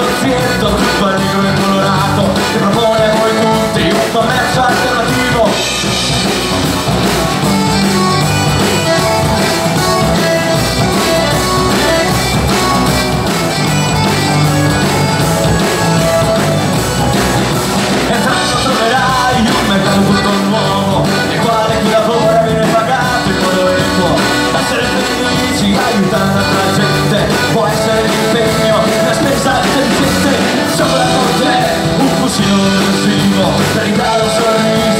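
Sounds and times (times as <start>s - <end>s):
accordion: 0.0s - 34.9s
acoustic guitars: 0.0s - 34.9s
drum kit beat: 0.0s - 34.9s.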